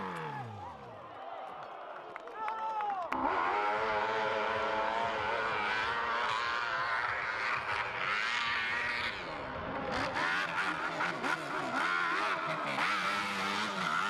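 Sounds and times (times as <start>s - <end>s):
dirt bike engine revving: 0.0s - 0.9s, 3.1s - 14.0s.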